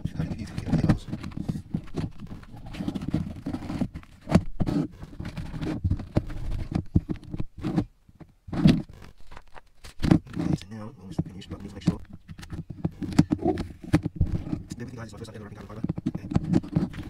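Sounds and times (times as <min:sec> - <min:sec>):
vinyl wrap rubbing by hand: 0:00.0 - 0:07.9, 0:08.5 - 0:17.0.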